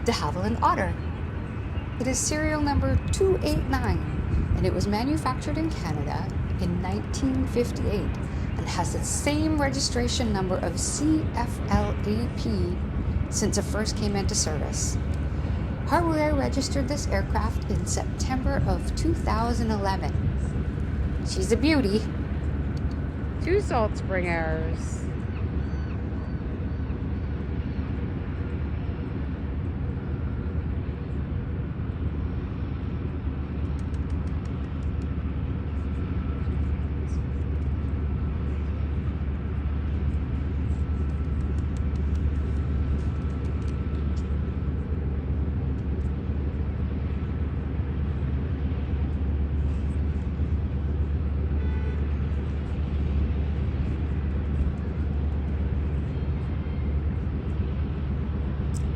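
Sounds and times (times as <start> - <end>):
plane radial engine rumbling: 0.0 - 58.9.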